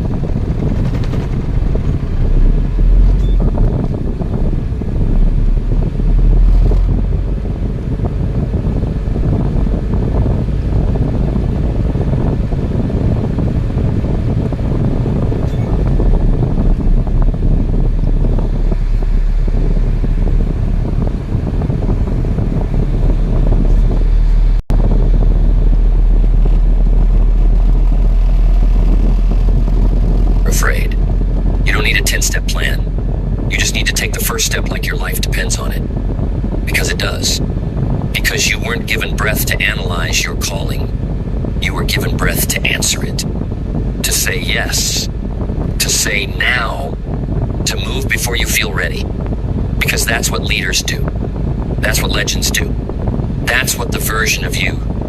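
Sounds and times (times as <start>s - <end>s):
vehicle engine and road noise: 0.0s - 55.0s.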